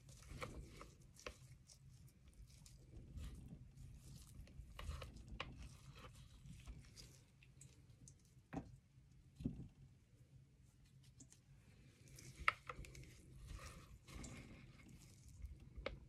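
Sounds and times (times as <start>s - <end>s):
utensil scraping soft oil: 0.0s - 8.2s, 10.9s - 16.0s.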